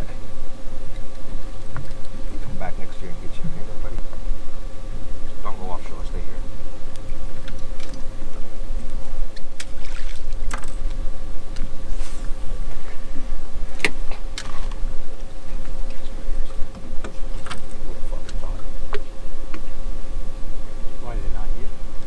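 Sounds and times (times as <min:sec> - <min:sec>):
constant hum: 0:00.0 - 0:22.0
steady low rumble: 0:00.0 - 0:22.0.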